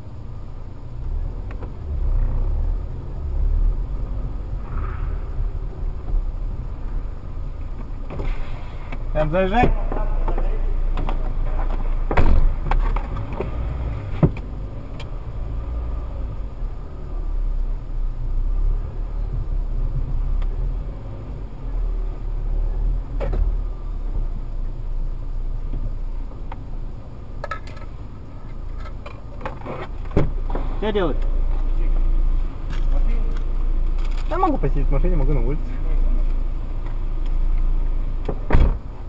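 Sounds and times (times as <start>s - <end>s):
car engine rumble inside cabin: 0.0s - 39.0s.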